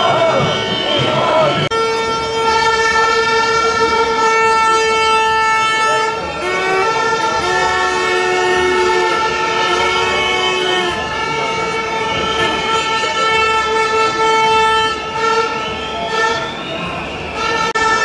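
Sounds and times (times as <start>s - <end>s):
horns blowing held notes: 0.0s - 18.0s.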